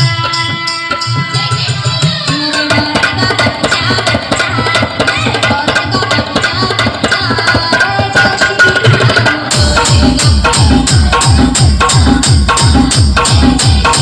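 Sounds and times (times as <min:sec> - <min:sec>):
tabla-style drumming: 0:00.0 - 0:14.0.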